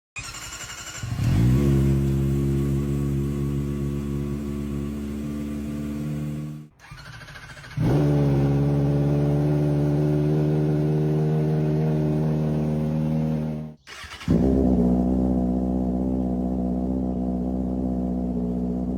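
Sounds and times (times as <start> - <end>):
motorcycle engine at steady revs: 1.0 - 18.9.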